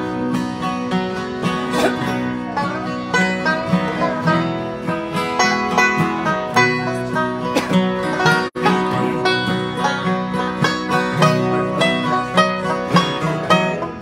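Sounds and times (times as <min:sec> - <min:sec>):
banjo picking: 0:00.0 - 0:14.0
strummed acoustic guitar: 0:00.0 - 0:14.0.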